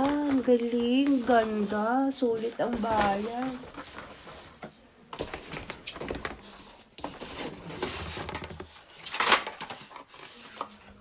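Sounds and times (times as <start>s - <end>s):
packaging rustling and scraping: 0.0s - 11.0s.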